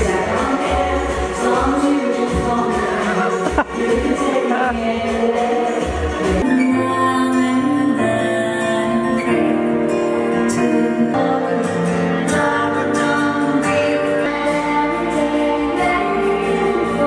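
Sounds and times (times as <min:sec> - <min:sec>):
backing music over speakers: 0:00.0 - 0:17.0
woman singing into microphone: 0:00.0 - 0:17.0.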